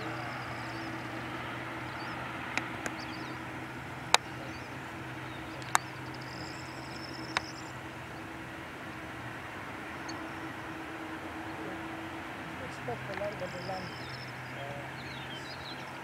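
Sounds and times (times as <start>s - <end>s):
turboprop plane taxiing: 0.0s - 16.0s.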